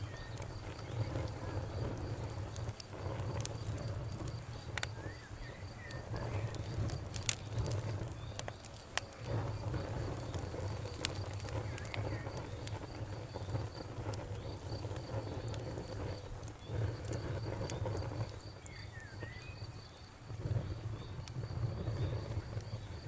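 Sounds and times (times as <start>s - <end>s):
campfire crackling and popping: 0.0s - 23.0s
cricket chirping: 0.0s - 23.0s
low steady rumble: 0.0s - 23.0s.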